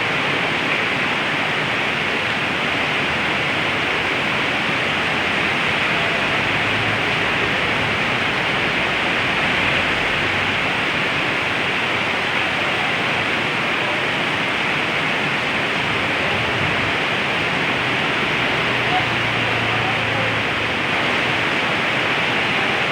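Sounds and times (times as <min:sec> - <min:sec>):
heavy rain: 0:00.0 - 0:22.9.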